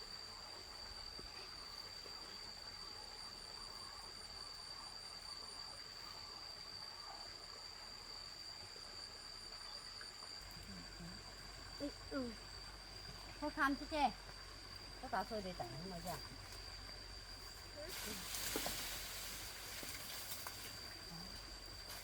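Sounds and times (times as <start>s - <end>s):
faint pulsing insect chirp: 0.0s - 22.0s
insects trilling drone: 0.0s - 22.0s.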